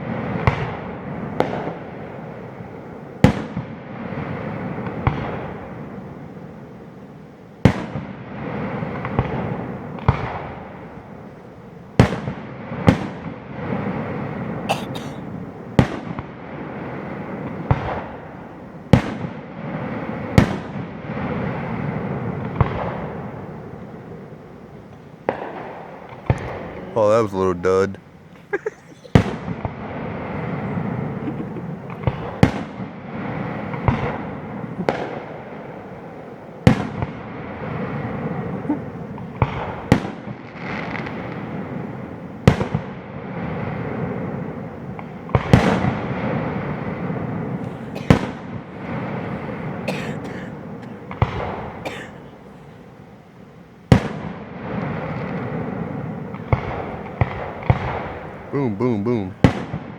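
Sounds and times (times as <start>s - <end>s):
fireworks bursting with bangs: 0.0s - 6.9s, 7.6s - 59.9s
fireworks crackling: 7.6s - 59.9s.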